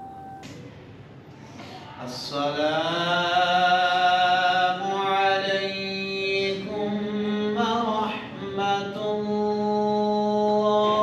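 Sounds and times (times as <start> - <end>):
man chanting prayer: 1.9 - 11.0.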